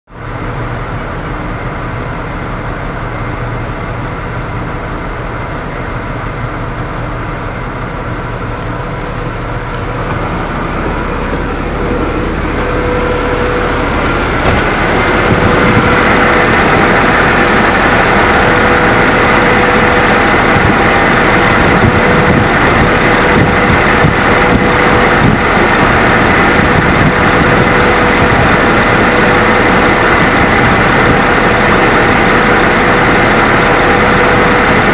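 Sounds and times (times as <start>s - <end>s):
truck engine idling: 0.1s - 34.9s.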